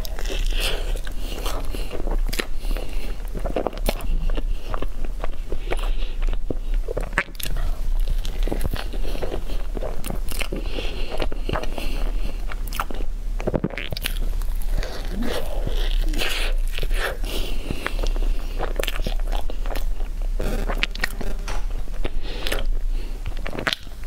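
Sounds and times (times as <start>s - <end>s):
close-miked chewing: 0.0s - 24.0s.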